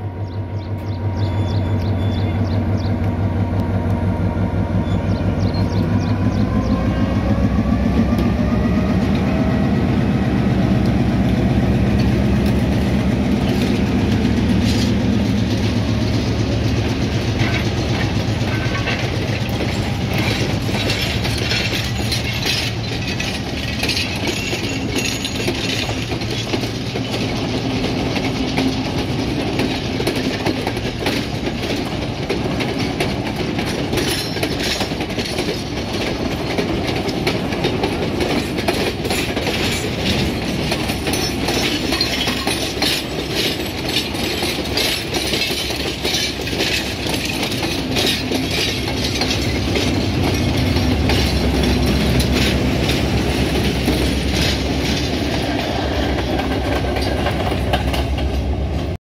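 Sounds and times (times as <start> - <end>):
diesel locomotive drone: 0.0 - 59.0
train wheels clattering over rail joints: 0.6 - 59.0.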